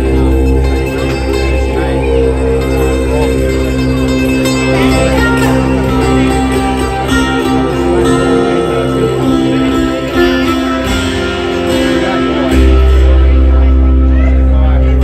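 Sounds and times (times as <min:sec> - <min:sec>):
acoustic guitar strumming: 0:00.0 - 0:15.0
didgeridoo drone: 0:00.0 - 0:15.0.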